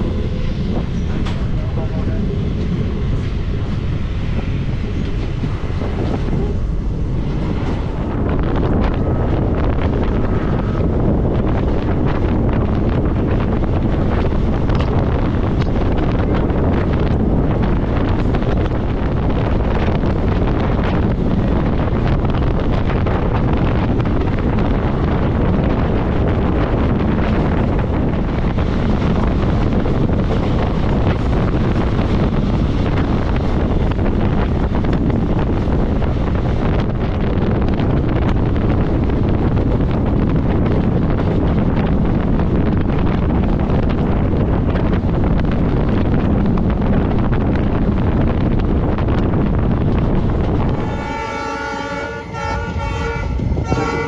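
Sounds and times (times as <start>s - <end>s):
train coaches rumbling on track: 0.0s - 54.0s
wind buffeting the microphone: 0.0s - 54.0s.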